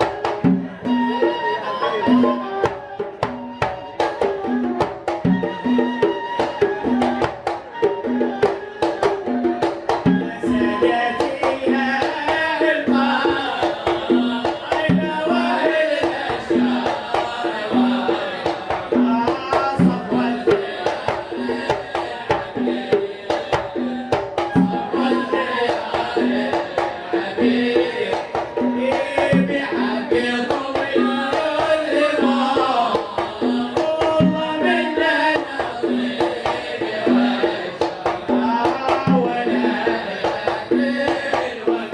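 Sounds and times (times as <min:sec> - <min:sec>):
hand drum strokes: 0:00.0 - 0:41.9
voices singing: 0:00.0 - 0:41.9.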